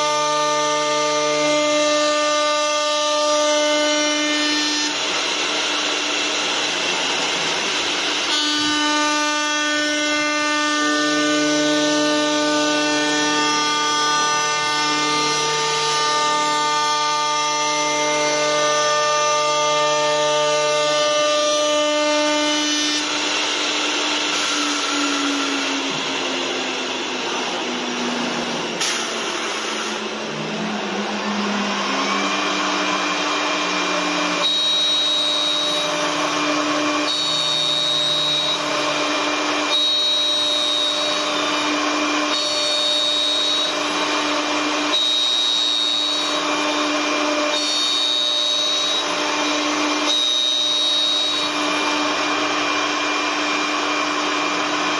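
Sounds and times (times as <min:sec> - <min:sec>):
cutter shaving wood: 0:00.0 - 0:54.9
lathe motor whine: 0:00.0 - 0:54.9.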